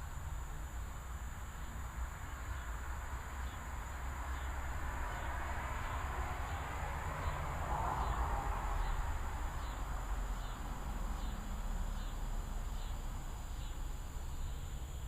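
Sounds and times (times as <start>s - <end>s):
crickets chirping: 0.0s - 15.0s
high insect drone: 0.0s - 15.0s.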